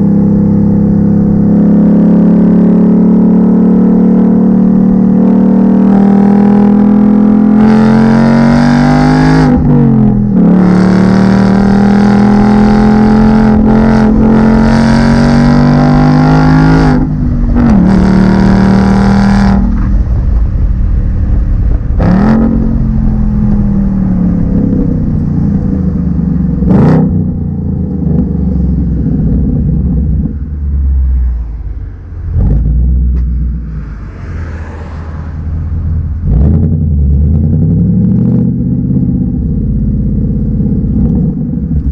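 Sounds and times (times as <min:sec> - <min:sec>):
car engine accelerating hard: 0:00.0 - 0:41.9.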